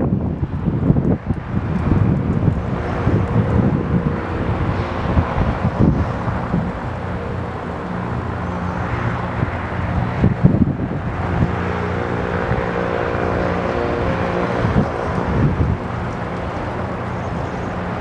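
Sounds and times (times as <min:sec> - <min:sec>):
blimp engines and propellers droning: 0:00.0 - 0:18.0
wind buffeting microphone: 0:00.0 - 0:18.0.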